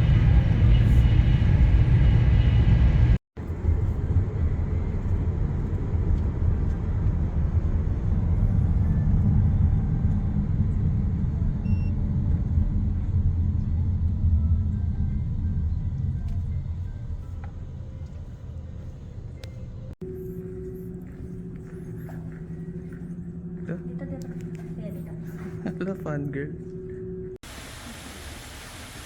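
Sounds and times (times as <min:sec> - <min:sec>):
vehicle rumbling in motion: 0:00.0 - 0:27.4.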